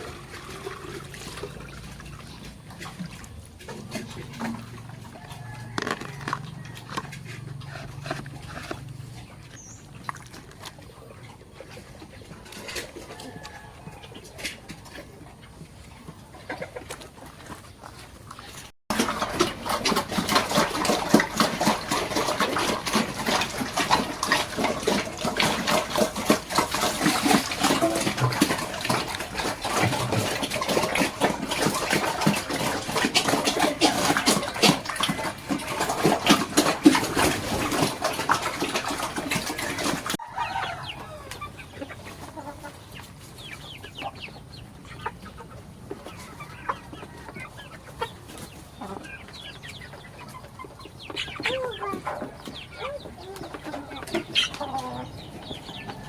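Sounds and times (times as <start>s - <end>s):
chickens clucking: 0.0s - 56.0s
farmyard sounds: 0.0s - 56.0s.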